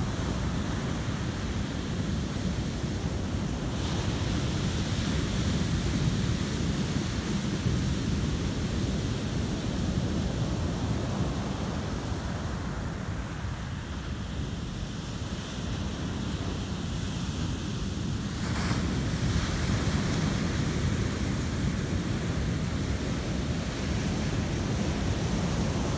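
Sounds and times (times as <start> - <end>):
ocean surf breaking on beach: 0.0 - 25.9.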